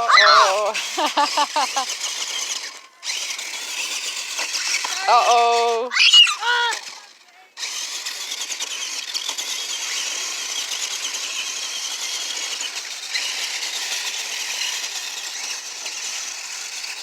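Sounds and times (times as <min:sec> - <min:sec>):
small electric motors whirring: 0:00.0 - 0:17.0.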